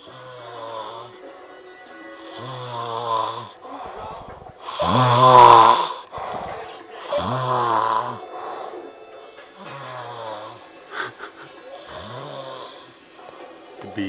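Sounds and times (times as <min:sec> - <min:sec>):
man snoring: 0:00.0 - 0:01.3, 0:02.2 - 0:08.9, 0:09.5 - 0:13.0.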